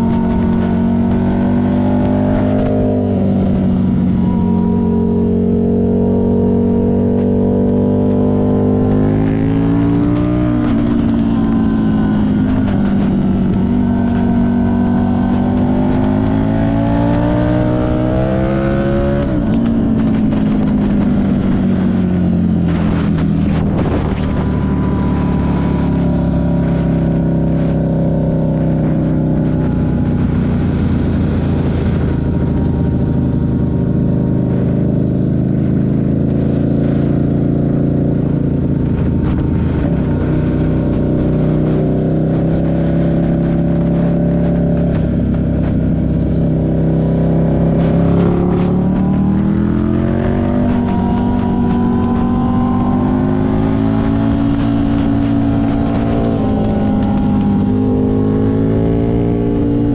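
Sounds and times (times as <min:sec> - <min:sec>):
motorcycle engine while riding: 0:00.0 - 0:59.9
rush of noise: 0:00.0 - 0:59.9.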